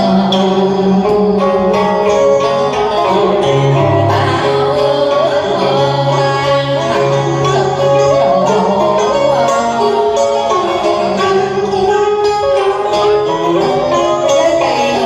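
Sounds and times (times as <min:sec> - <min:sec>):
plucked guitar melody: 0:00.0 - 0:15.0
sustained bass notes: 0:00.0 - 0:15.0.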